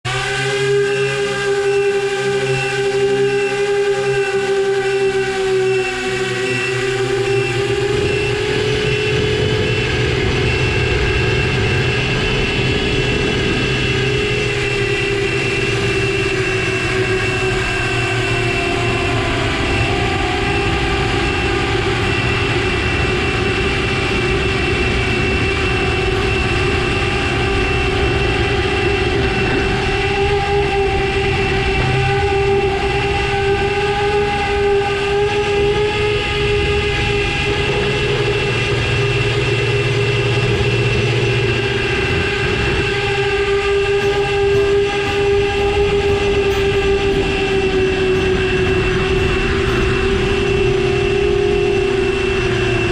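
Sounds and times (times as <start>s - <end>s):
quadcopter motors whining: 0.0s - 52.9s.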